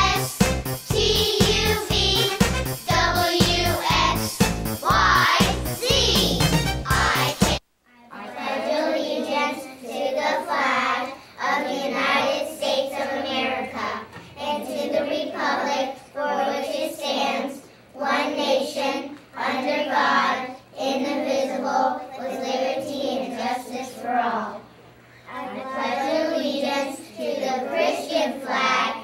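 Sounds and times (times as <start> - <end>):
children chanting in unison: 0.0 - 2.4, 3.0 - 24.7, 25.3 - 29.0.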